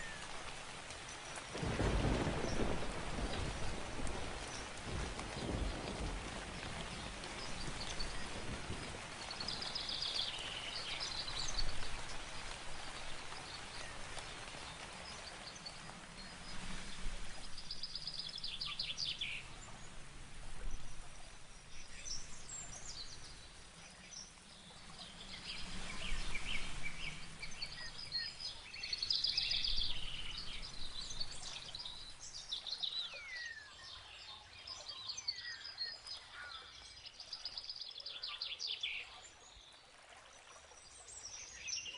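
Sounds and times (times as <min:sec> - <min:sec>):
rain hiss: 0:00.0 - 0:39.6
songbirds singing: 0:00.0 - 0:41.9.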